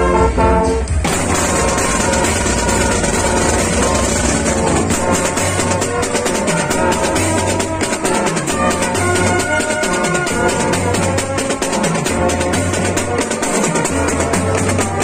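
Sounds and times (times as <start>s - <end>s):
brass horns playing: 0.0s - 15.0s
sousaphones holding bass notes: 0.9s - 13.0s
steady drumming: 0.9s - 15.0s.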